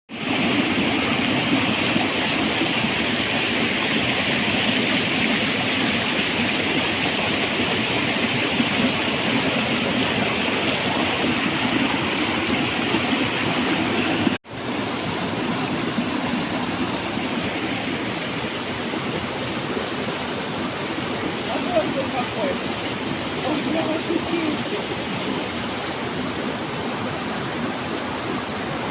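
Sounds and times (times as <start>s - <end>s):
waterfall rushing: 0.1s - 28.9s.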